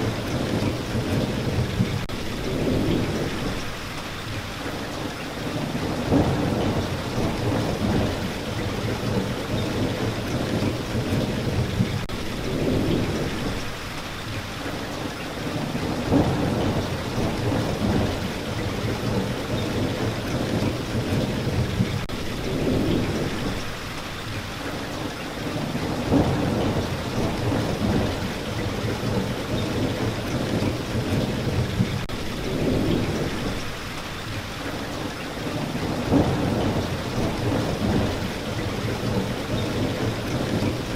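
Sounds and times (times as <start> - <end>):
thunder rumbling: 0.0 - 3.8, 5.5 - 13.8, 15.5 - 23.8, 25.5 - 33.8, 35.4 - 40.9
heavy rain falling: 0.0 - 40.9.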